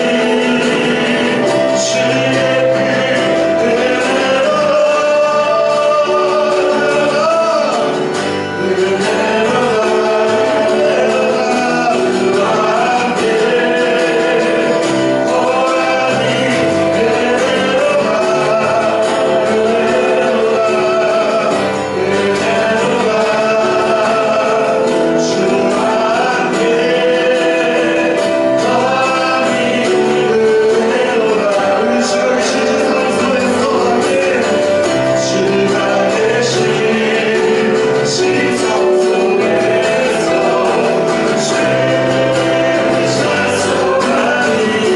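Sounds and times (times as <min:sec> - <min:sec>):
choir singing worship song: 0:00.0 - 0:44.9
instrumental accompaniment: 0:00.0 - 0:44.9.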